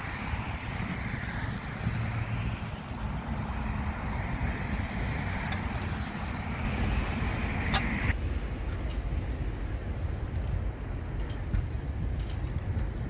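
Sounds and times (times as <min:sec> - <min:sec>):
bicycle tyres on asphalt: 0:00.0 - 0:13.0
wind on microphone: 0:00.0 - 0:13.0.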